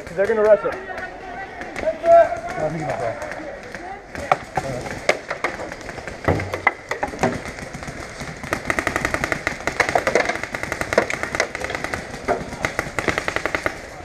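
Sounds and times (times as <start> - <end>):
paintball markers firing: 0.0 - 13.9.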